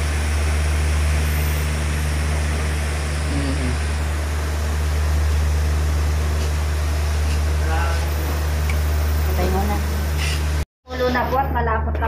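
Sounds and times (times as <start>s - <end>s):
low droning hum: 0.0s - 11.4s.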